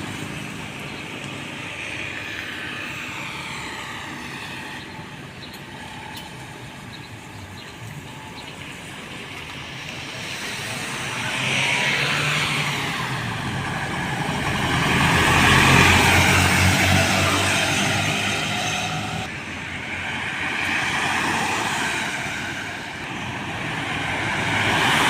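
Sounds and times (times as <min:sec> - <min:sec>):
passing traffic: 0:00.0 - 0:25.0.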